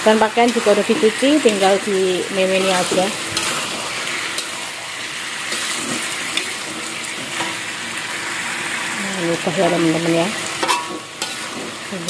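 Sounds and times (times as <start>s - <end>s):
food sizzling in a wok: 0.0s - 12.0s
metal spatula scraping a pan: 0.2s - 7.7s, 9.6s - 12.0s.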